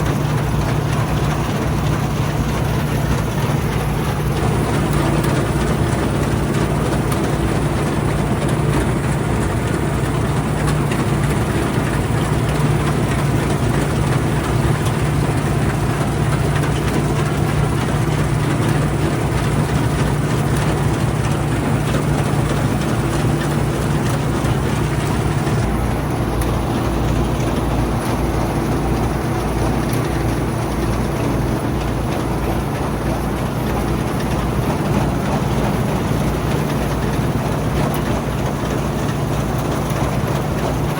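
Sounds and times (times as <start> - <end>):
combine harvester engine drone: 0.0 - 40.9
working machinery noise: 0.0 - 40.9.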